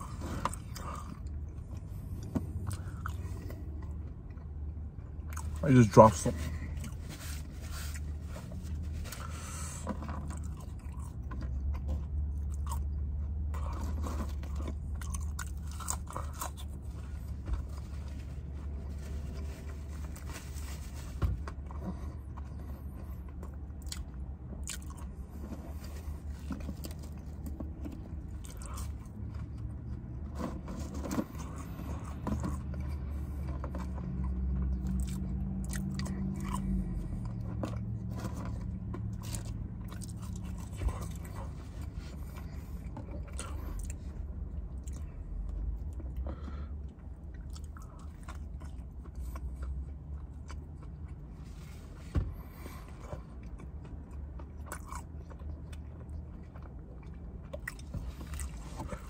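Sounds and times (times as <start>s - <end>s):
chewing and biting food: 0.0s - 20.3s, 21.4s - 59.0s.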